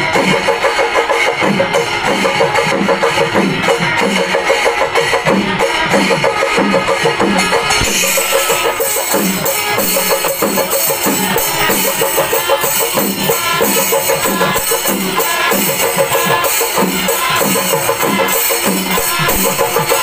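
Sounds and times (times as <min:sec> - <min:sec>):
drum-led percussion music: 0:00.0 - 0:20.0.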